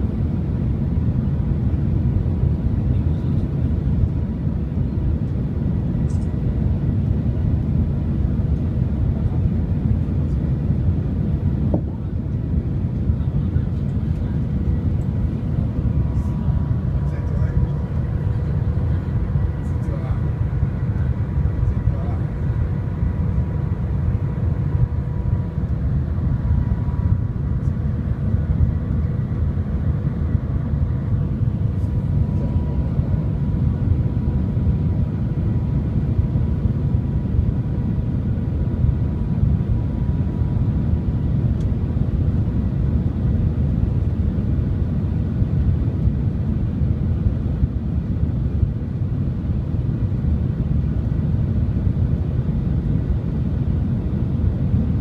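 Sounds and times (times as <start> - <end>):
faint steady whine: 0.0 - 55.0
train cabin low rumble: 0.0 - 55.0.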